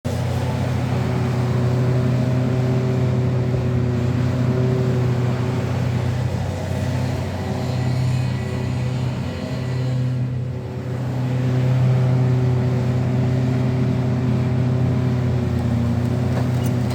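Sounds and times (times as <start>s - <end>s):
excavator diesel engine running: 0.1s - 16.9s.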